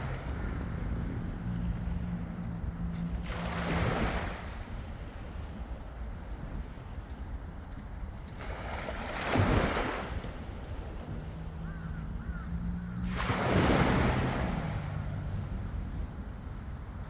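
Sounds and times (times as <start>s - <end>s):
sea waves washing onto beach: 1.2s - 11.5s, 13.0s - 16.8s.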